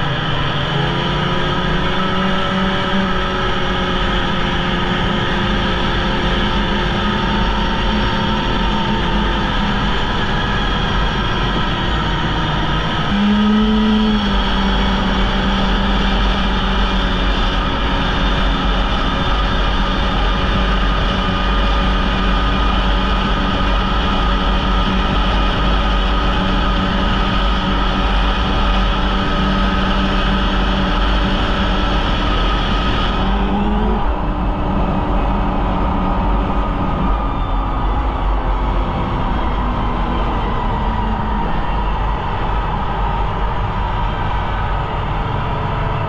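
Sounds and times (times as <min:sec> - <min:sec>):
snowmobile engine running: 0:00.0 - 0:46.0.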